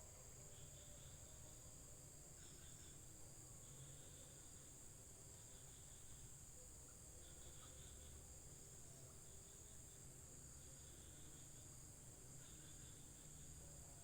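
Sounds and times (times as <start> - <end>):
high-pitched insect trill: 0.0 - 14.0
lower insect trill: 0.0 - 14.0.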